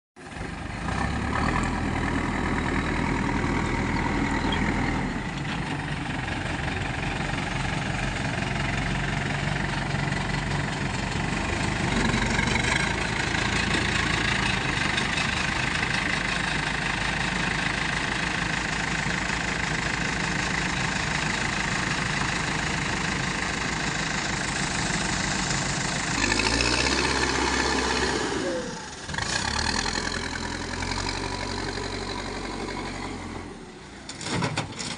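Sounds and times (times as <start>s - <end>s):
backhoe diesel engine revving: 0.2s - 34.9s.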